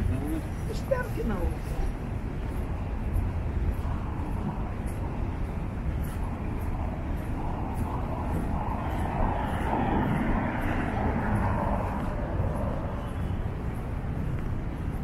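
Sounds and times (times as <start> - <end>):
street traffic: 0.0 - 15.0
vehicle passing: 0.0 - 15.0.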